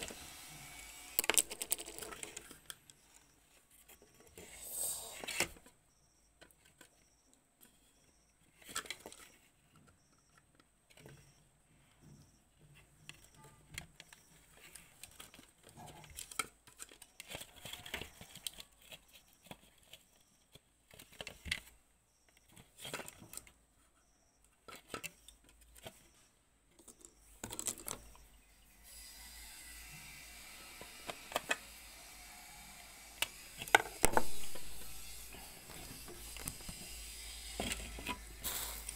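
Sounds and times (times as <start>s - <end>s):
hard plastic parts clicking and scraping: 0.0s - 4.6s, 5.2s - 28.4s, 30.8s - 31.8s, 33.1s - 38.9s.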